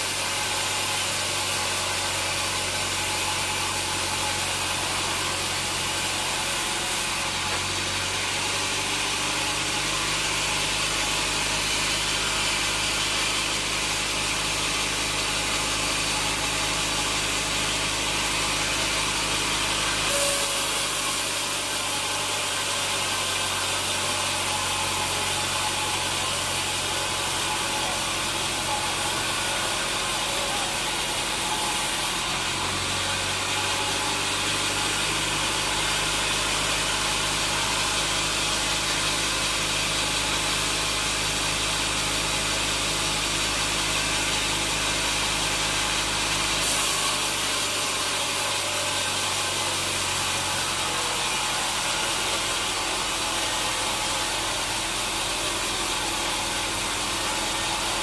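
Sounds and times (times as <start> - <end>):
sawmill machinery humming: 0.0 - 58.0.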